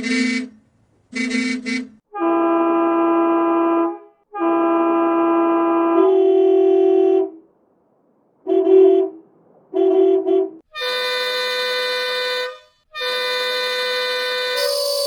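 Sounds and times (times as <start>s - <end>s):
bus horn honking: 0.0s - 0.6s, 1.2s - 7.4s, 9.8s - 15.0s.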